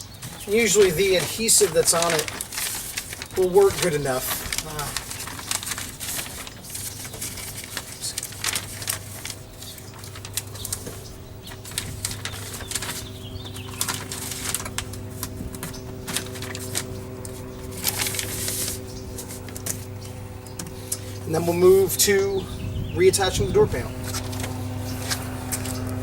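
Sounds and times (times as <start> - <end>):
plastic sheet crinkling: 0.0 - 22.2, 23.1 - 26.0
steady low hum: 0.0 - 26.0.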